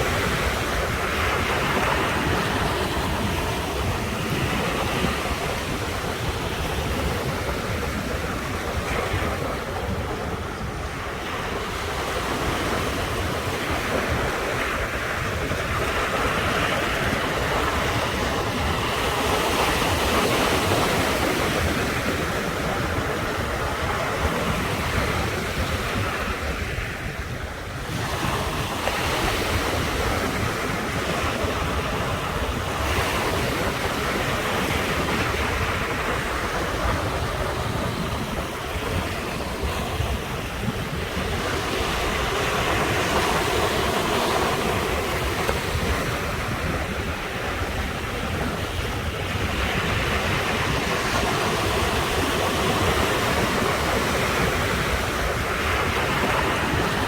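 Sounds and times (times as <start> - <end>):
ocean waves breaking on shore: 0.0 - 57.0
wind rumble on microphone: 0.0 - 57.0.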